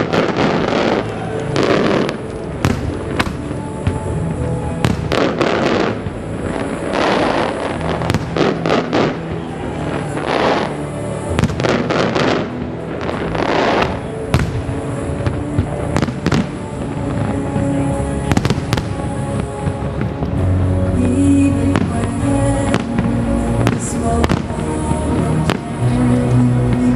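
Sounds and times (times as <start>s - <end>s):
music: 0.0s - 26.9s.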